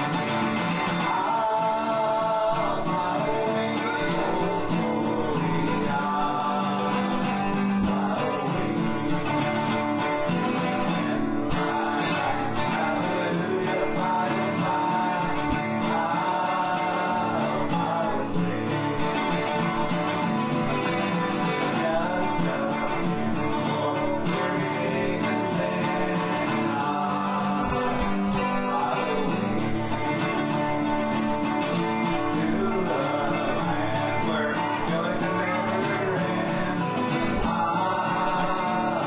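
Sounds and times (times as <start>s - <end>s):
acoustic guitar: 0.0s - 39.0s
person singing: 0.0s - 39.0s.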